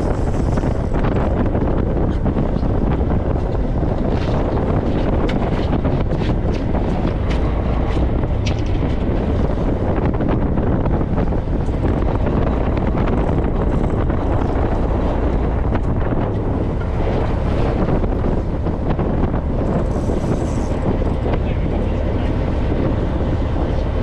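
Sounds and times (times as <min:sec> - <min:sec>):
boat engine rumble: 0:00.0 - 0:24.0
wind buffeting microphone: 0:00.0 - 0:24.0.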